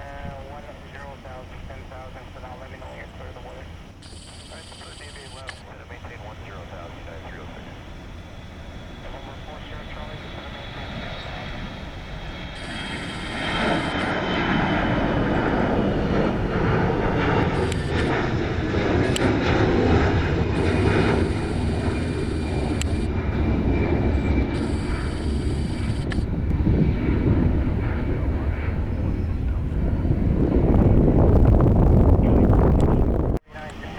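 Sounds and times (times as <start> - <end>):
airliner engines passing: 0.0 - 33.9.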